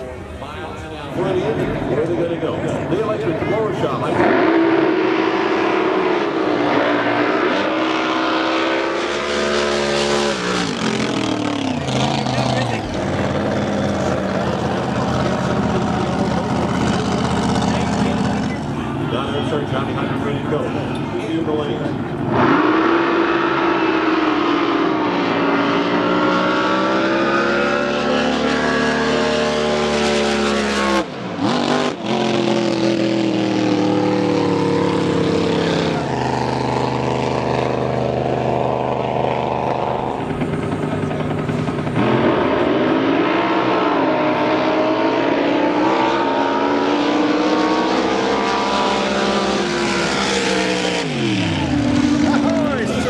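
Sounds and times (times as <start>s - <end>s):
racing boat engines revving: 0.0s - 53.0s.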